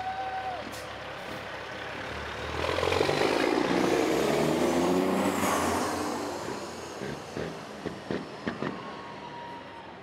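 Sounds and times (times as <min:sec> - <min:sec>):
truck diesel engine passing: 0:00.4 - 0:10.0.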